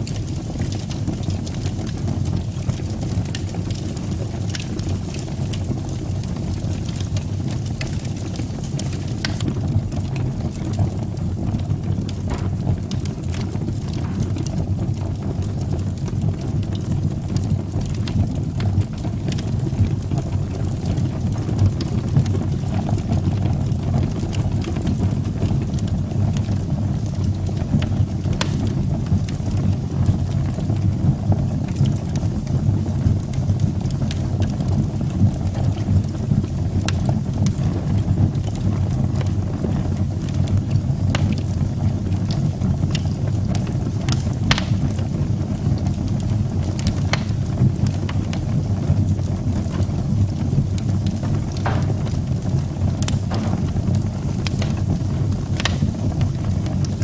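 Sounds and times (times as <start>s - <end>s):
fire crackling and popping: 0.0s - 57.0s
fire roaring: 0.0s - 57.0s.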